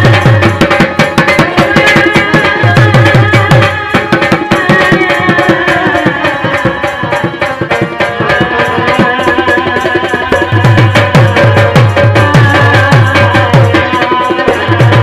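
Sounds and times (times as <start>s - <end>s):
dhol drum played fast: 0.0s - 15.0s.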